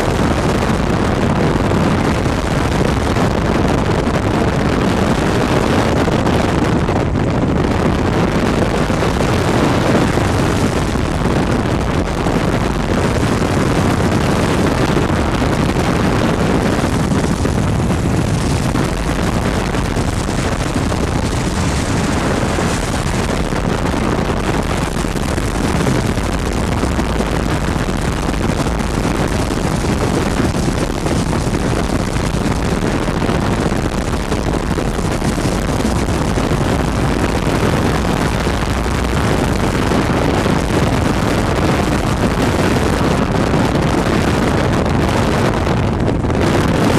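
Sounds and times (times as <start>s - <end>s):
ultralight aircraft engine drone: 0.0s - 46.9s
wind rushing over microphone: 0.0s - 46.9s.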